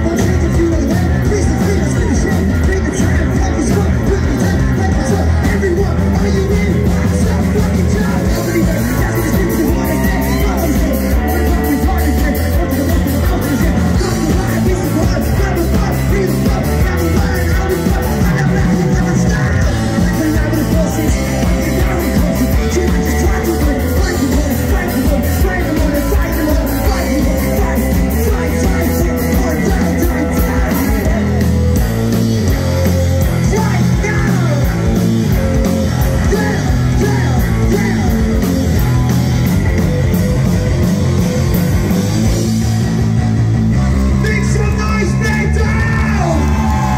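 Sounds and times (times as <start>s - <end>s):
person singing: 0.0s - 39.2s
live rock band: 0.0s - 46.9s.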